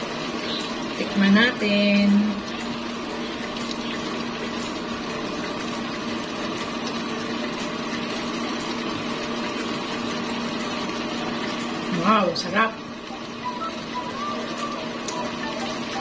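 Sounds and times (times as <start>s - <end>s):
appliance motor hum: 0.0s - 16.0s
sauce simmering: 0.0s - 16.0s.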